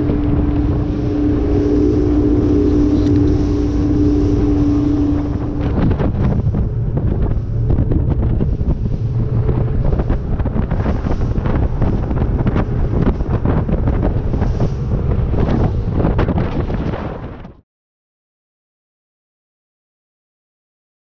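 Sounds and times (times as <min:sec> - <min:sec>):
water rushing: 0:00.0 - 0:17.0
outboard motors running: 0:00.0 - 0:17.6
strong wind buffeting microphone: 0:00.0 - 0:17.6.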